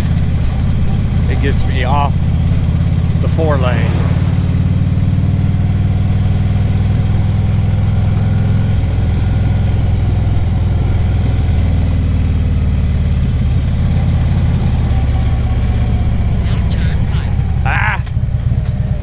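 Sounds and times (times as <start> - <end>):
motorcycle engine cruising: 0.0 - 19.0.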